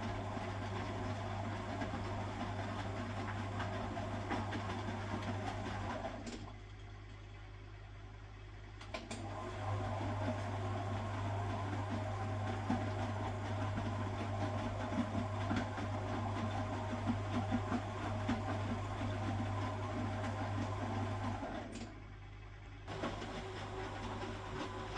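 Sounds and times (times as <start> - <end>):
washing machine motor humming: 0.0 - 6.6, 9.2 - 21.8, 22.9 - 24.9
washing machine churning: 0.0 - 6.7, 9.0 - 22.0, 22.8 - 24.9.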